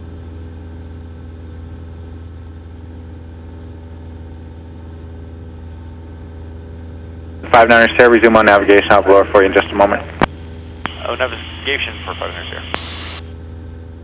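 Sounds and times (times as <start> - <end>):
airplane engine and propeller droning: 0.0 - 14.0.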